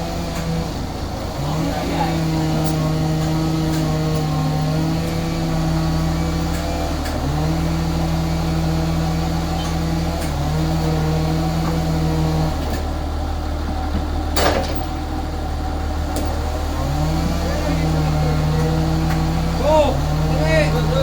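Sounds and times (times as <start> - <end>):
engine-driven machinery humming: 0.0 - 21.0.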